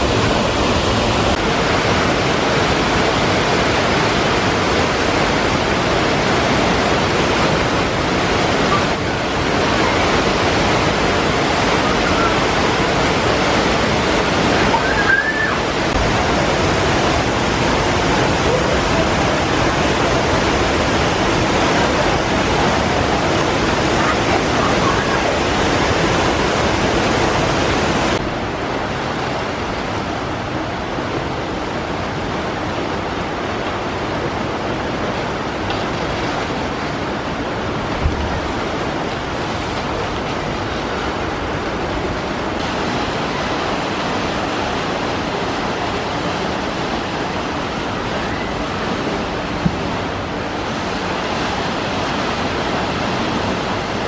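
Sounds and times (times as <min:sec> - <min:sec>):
rushing churning water: 0:00.0 - 0:54.0.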